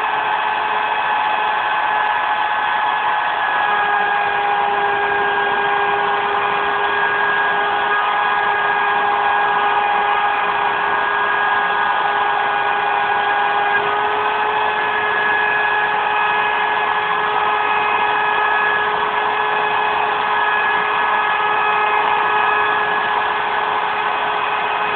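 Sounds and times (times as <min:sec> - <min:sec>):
router spindle whining: 0:00.0 - 0:24.9.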